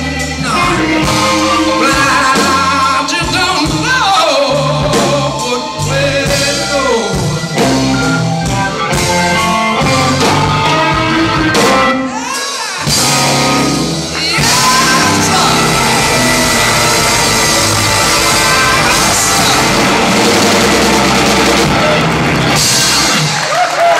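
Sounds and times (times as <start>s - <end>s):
person singing: 0.0s - 13.1s, 13.8s - 22.1s
bass guitar: 0.0s - 23.9s
drums: 0.0s - 23.9s
electric guitar: 0.0s - 23.9s.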